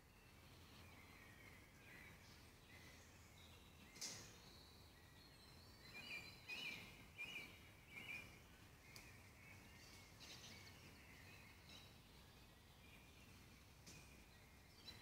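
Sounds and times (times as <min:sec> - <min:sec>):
faint songbird chirping: 0:00.0 - 0:15.0.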